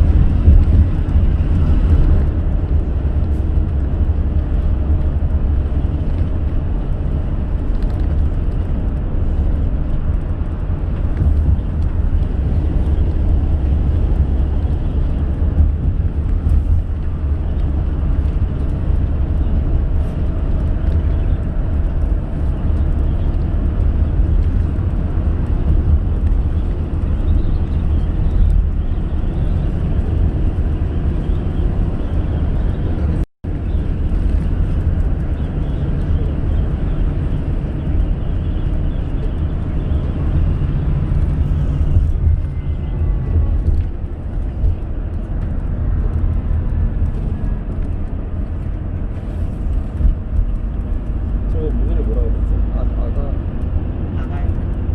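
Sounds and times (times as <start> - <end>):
car driving on road: 0.0 - 54.9.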